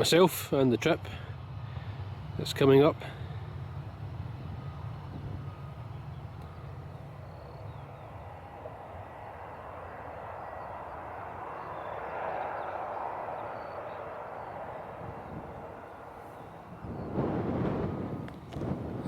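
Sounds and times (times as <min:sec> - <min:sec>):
distant engine noise: 0:00.0 - 0:19.0.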